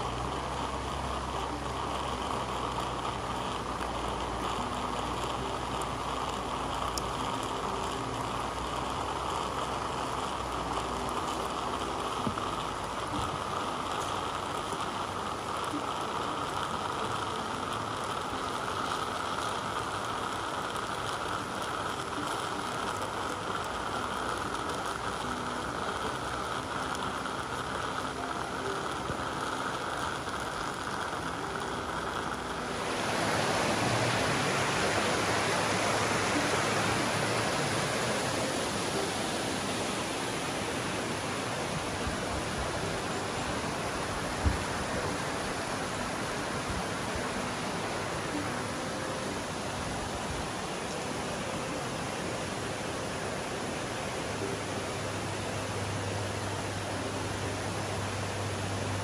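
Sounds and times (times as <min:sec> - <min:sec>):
coffee pouring into mug: 0:00.0 - 0:48.4
espresso maker hissing: 0:00.0 - 0:59.0
mountain stream rushing: 0:00.0 - 0:59.0.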